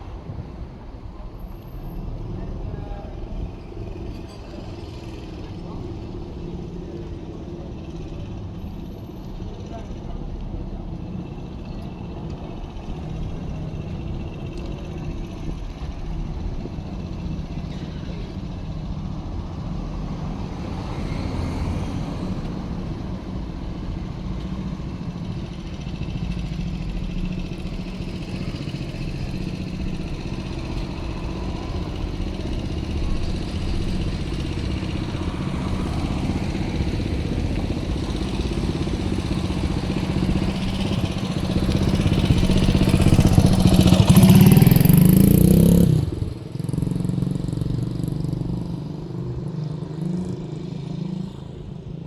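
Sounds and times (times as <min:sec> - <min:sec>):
engine running with low hum: 0:00.0 - 0:52.0.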